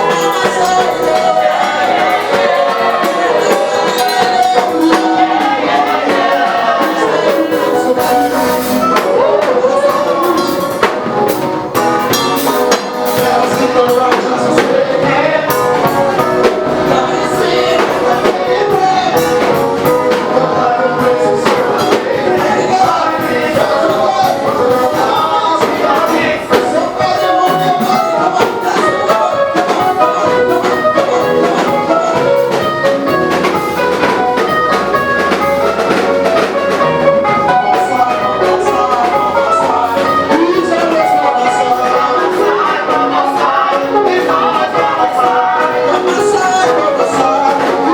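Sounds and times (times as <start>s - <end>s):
gospel band with singing: 0.0s - 47.9s.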